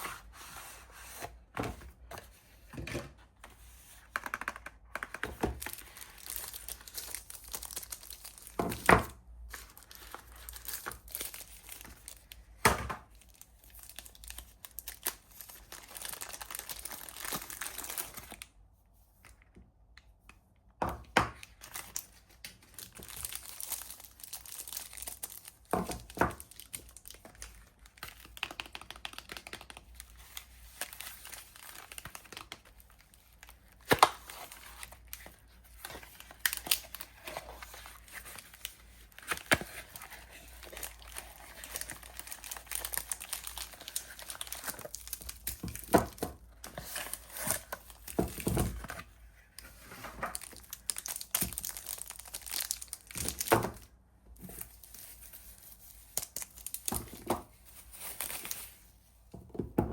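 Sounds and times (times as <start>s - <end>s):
wrappers crinkling and tearing: 5.6s - 8.9s, 9.5s - 18.5s, 21.5s - 58.9s.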